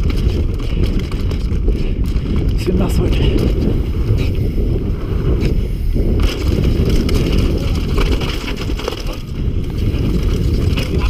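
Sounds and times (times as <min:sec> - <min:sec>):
bike rattling: 0:00.0 - 0:11.0
tyres rumbling over dirt: 0:00.0 - 0:11.0
wind buffeting microphone: 0:00.0 - 0:11.0.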